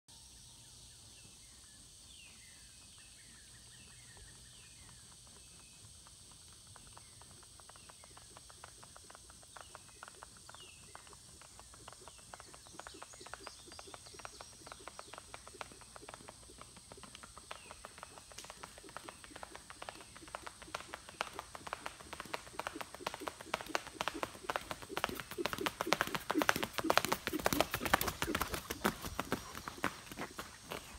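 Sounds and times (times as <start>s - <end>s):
birds chirping: 0.4s - 30.9s
horse hoofbeats on road: 3.4s - 30.9s.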